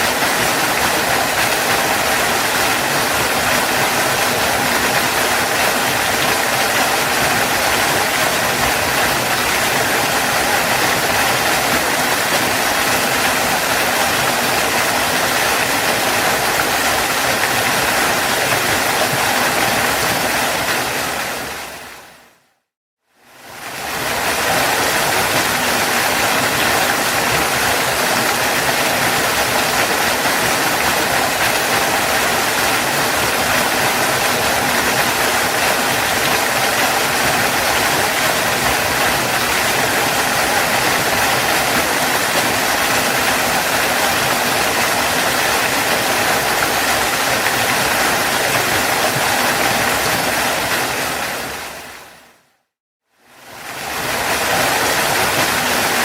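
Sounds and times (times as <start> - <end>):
waterfall roaring: 0.0 - 22.2, 23.4 - 52.4, 53.4 - 56.0.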